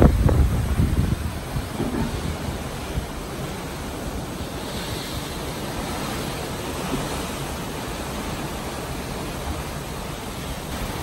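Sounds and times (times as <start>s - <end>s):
sea water rushing along hull: 0.0s - 11.0s
wind: 0.0s - 11.0s.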